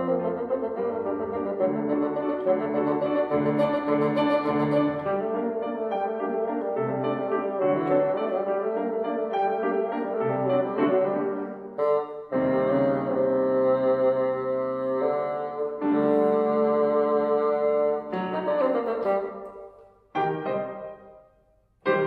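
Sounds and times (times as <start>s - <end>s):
bassoon and piano duet: 0.0s - 22.0s.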